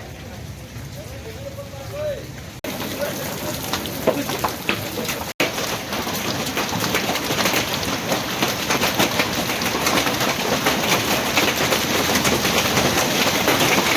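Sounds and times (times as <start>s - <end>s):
hail and rain on hard surfaces: 0.0s - 13.9s.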